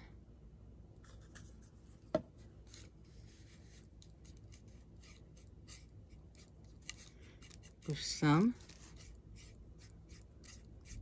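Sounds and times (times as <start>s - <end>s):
paintbrush brushing: 1.0s - 11.0s.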